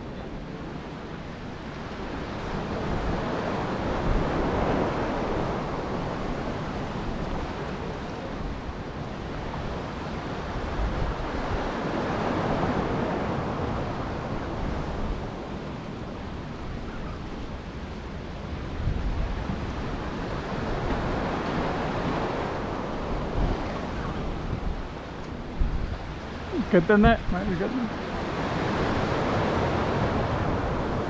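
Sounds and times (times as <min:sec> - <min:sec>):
ocean waves washing: 0:00.0 - 0:31.0
wind rumbling on microphone: 0:00.0 - 0:31.0.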